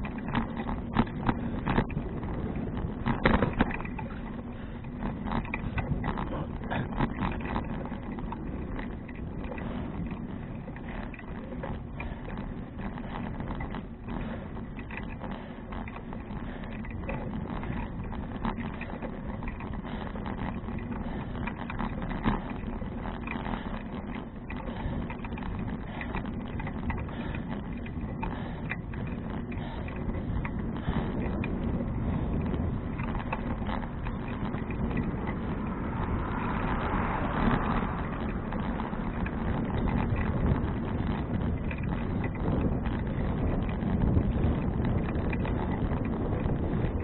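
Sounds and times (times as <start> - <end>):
bike clicks and rattles: 0.0 - 47.0
rolling tyre noise: 0.0 - 47.0
wind: 0.0 - 47.0.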